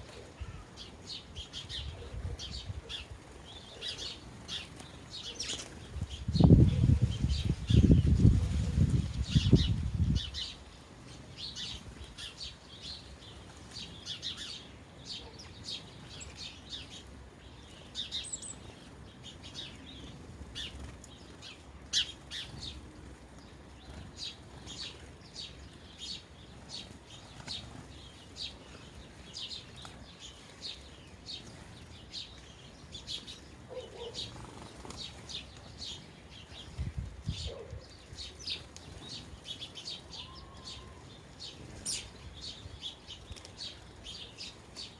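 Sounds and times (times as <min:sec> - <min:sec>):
sparrows chirping: 0:00.0 - 0:44.9.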